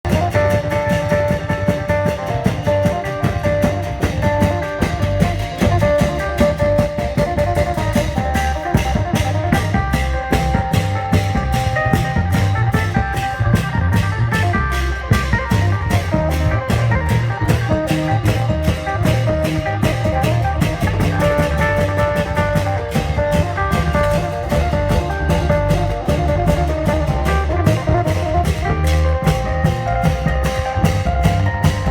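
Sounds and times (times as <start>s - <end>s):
fast drum beats: 0.0s - 31.9s
melody of held notes: 0.1s - 31.9s.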